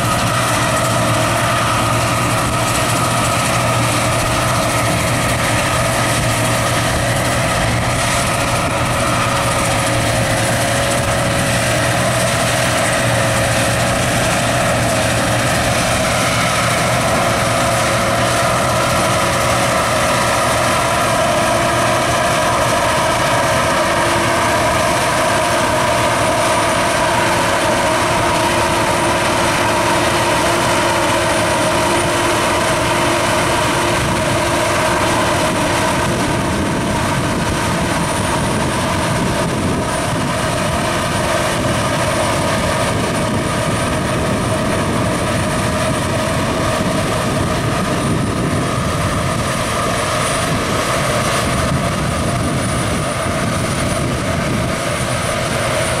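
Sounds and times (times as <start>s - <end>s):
combine harvester droning: 0.0s - 56.0s
whining tones: 0.0s - 56.0s.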